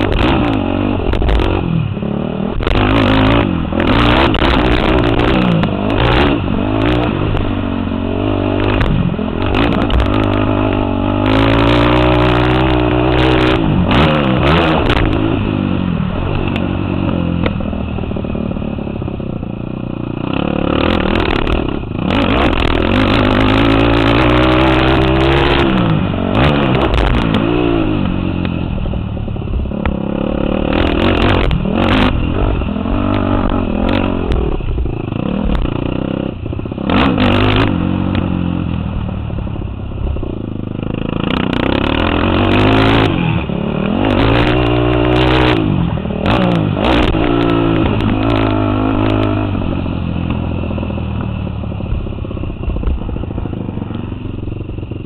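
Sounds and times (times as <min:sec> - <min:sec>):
quad engine revving: 0:00.0 - 0:17.6, 0:19.8 - 0:28.6, 0:29.7 - 0:38.8, 0:40.2 - 0:50.8.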